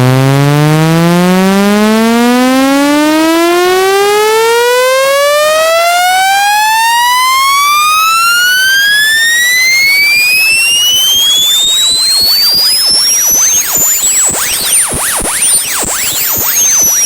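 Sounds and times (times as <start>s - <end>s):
buzzy electronic tone rising: 0.0s - 5.5s, 6.8s - 17.0s.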